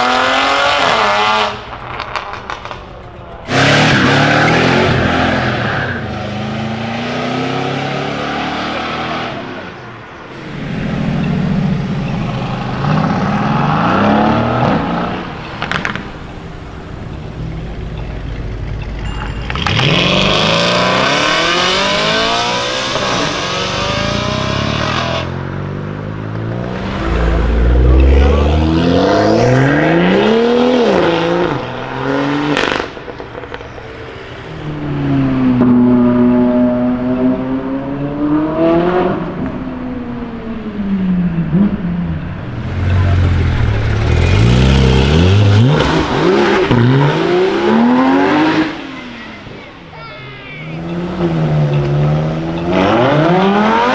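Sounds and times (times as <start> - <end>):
car engines accelerating hard: 0.0 - 49.9, 50.6 - 53.9.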